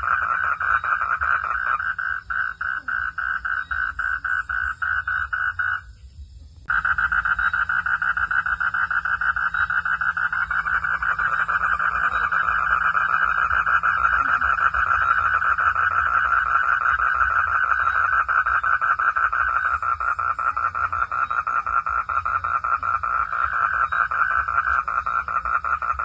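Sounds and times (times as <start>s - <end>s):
frogs calling in chorus: 0.0s - 6.0s, 6.7s - 26.0s
low steady hum: 0.0s - 26.0s.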